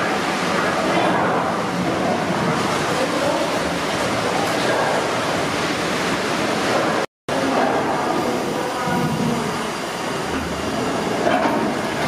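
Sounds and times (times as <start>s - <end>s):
steam engine rushing hiss: 0.0s - 12.0s.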